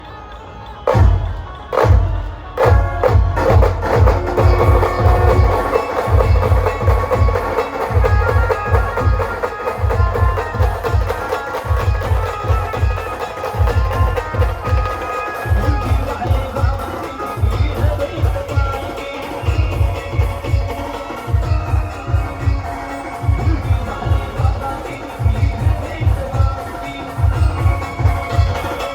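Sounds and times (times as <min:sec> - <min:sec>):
bass drum beats: 0:00.9 - 0:28.9.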